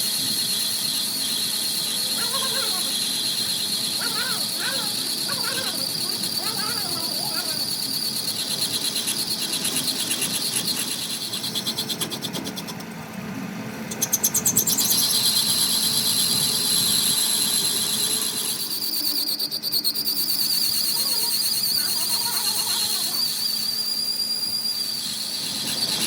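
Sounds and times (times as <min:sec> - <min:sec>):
insects trilling: 0:00.0 - 0:12.4, 0:14.1 - 0:26.0.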